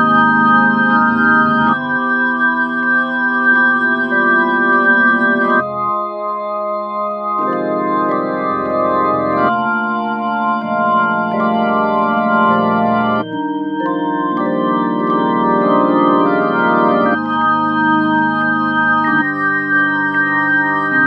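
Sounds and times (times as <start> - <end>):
organ chords: 0.0 - 21.0.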